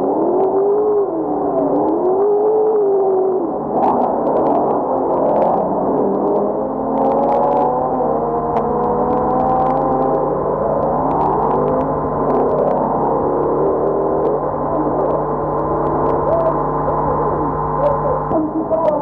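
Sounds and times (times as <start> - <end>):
film soundtrack crackle: 0.0 - 19.0
racing car engines passing: 0.1 - 18.4.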